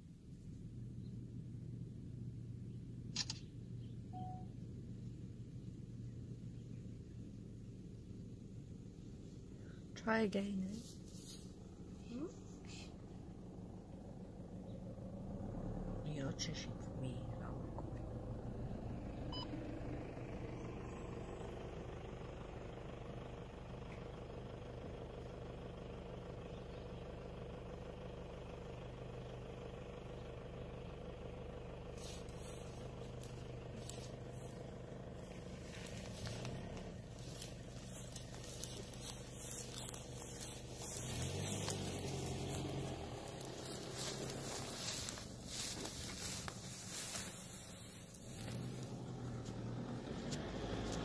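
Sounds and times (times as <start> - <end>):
vehicle engine idling: 0.0 - 51.0.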